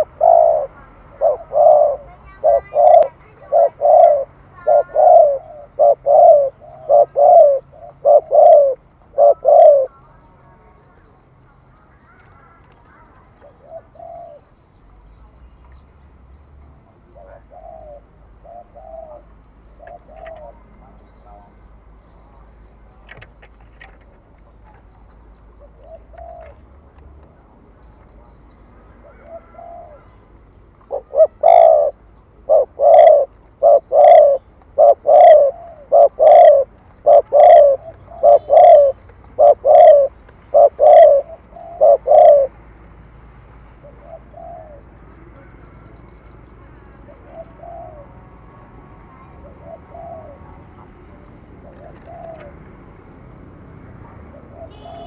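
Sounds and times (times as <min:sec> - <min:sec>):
dove cooing: 0:00.0 - 0:14.7, 0:16.8 - 0:21.7, 0:22.3 - 0:42.8, 0:43.7 - 0:55.0.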